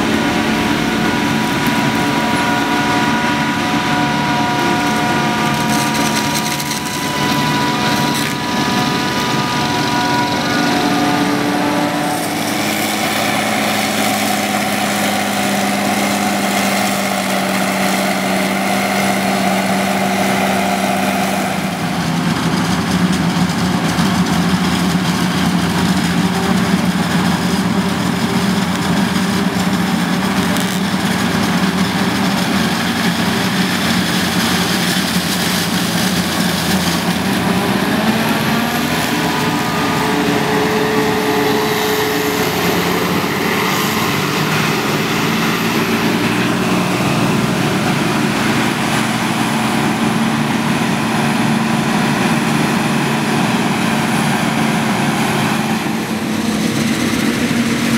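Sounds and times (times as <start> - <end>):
forage harvester droning: 0.0 - 57.9
tractor engine: 0.0 - 57.9.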